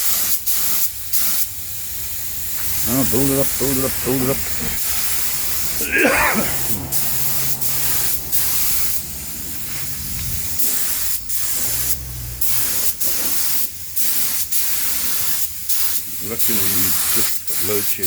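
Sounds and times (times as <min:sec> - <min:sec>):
spray gun hissing: 0:00.0 - 0:05.9, 0:06.5 - 0:18.0.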